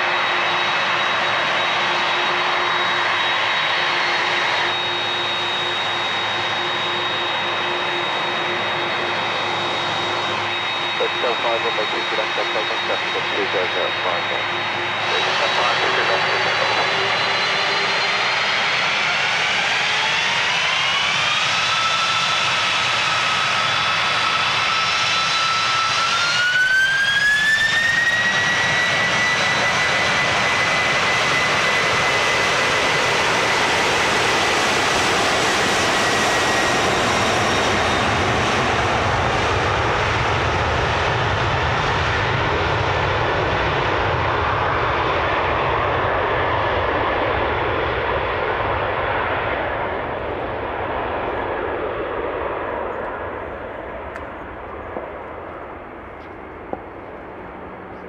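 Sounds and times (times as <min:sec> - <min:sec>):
jet engine fan whine: 0:00.0 - 0:58.0
jet engine roar and rumble: 0:00.0 - 0:58.0.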